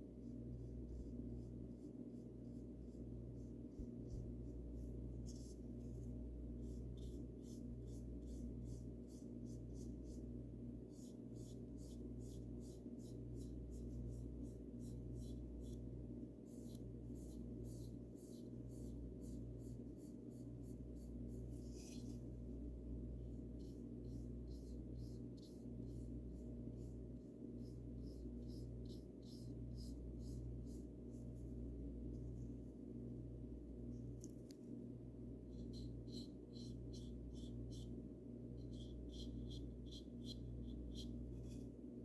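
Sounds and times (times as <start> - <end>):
paintbrush strokes: 0.0 - 33.1, 33.7 - 42.0
steady low hum: 0.0 - 42.0.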